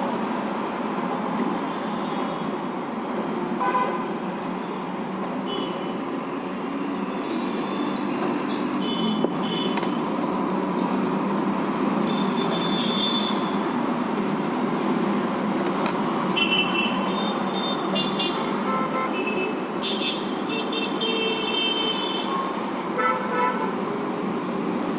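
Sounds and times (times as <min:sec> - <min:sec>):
street traffic noise: 0:00.0 - 0:24.9.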